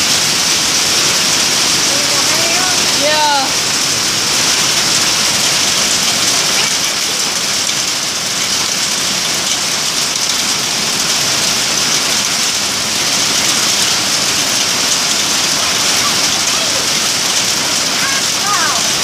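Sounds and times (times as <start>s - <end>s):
hail and heavy rain pelting: 0.0s - 19.0s.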